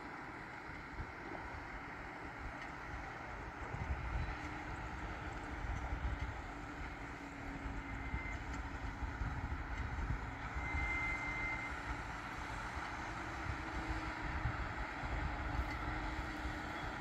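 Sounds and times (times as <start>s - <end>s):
distant tractor engine drone: 0.0s - 17.0s.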